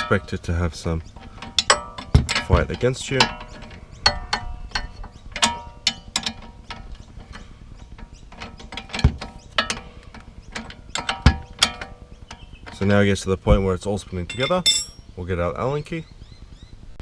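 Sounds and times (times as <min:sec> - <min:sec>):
metal ringing: 0:00.0 - 0:15.2.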